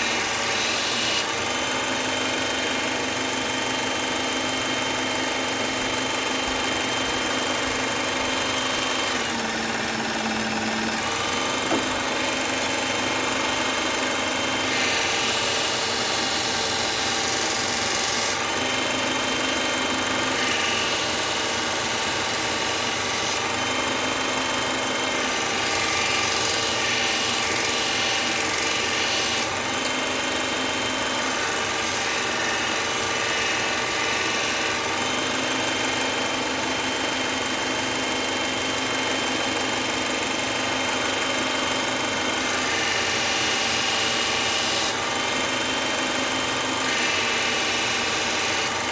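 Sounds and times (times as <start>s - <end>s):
sharpening machine motor hum: 0.0s - 48.9s.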